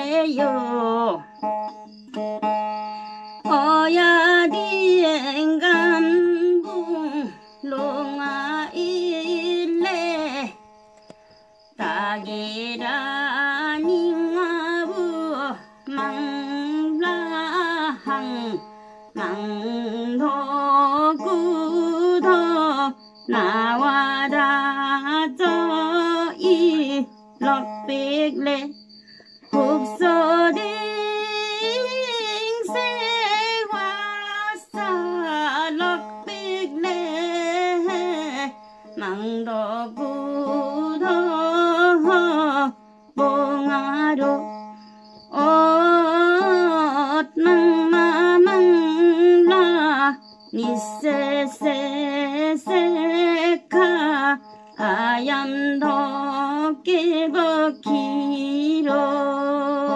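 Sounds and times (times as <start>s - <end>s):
woman singing: 0.0s - 2.3s, 3.3s - 10.6s, 11.8s - 59.9s.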